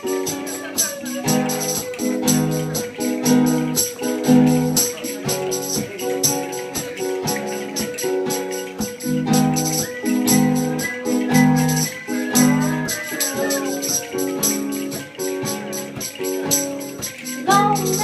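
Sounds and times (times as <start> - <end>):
quick percussion beat: 0.0 - 18.0
strummed acoustic guitar: 0.0 - 18.0
wavering high melody: 0.0 - 18.0.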